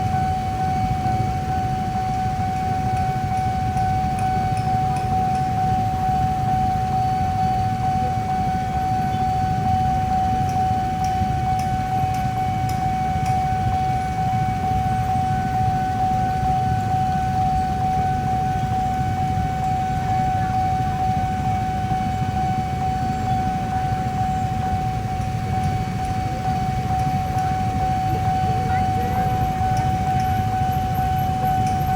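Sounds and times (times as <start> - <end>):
level crossing alarm tone: 0.0 - 31.9.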